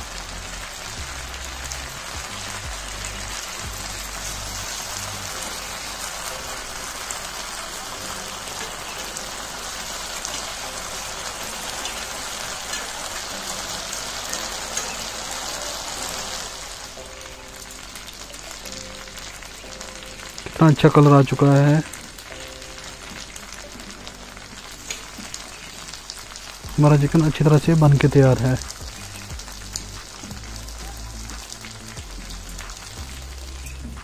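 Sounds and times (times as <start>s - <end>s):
chicken sizzling in oil: 0.0s - 34.0s.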